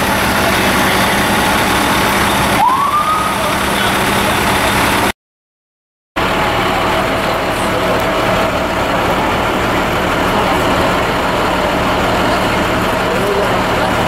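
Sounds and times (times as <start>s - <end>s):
truck engines idling: 0.0s - 5.1s, 6.2s - 14.0s.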